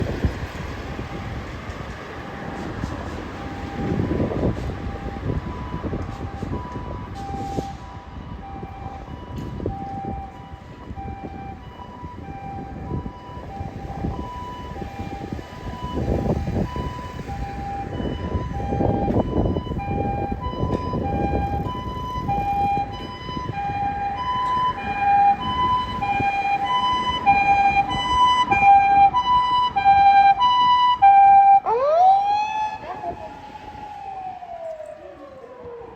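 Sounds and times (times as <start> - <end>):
ambulance two-tone siren: 0.0 - 35.9
low traffic rumble: 0.0 - 35.9.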